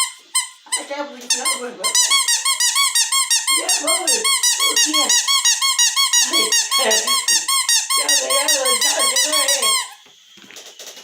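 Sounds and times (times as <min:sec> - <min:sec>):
squeaky toy squeaking: 0:00.0 - 0:10.0.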